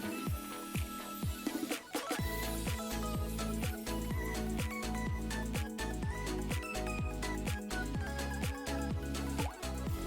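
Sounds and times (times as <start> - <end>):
electronic kick drum: 0.0 - 10.0.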